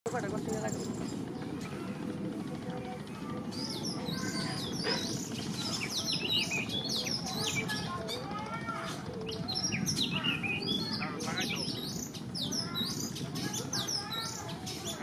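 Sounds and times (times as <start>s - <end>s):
small birds chirping: 0.1s - 1.8s, 3.2s - 15.0s.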